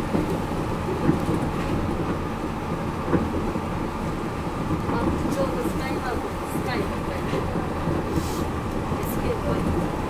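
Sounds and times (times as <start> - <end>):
train tyres rumbling: 0.0 - 10.0.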